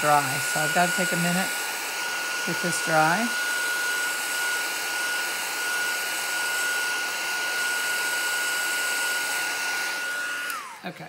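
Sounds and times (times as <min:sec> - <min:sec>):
heat tool fan whine: 0:00.0 - 0:10.9.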